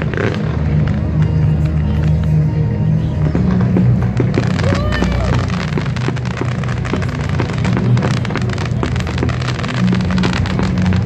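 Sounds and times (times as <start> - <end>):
fireworks crackling: 0.0 - 11.0
steady low drone: 0.0 - 11.0.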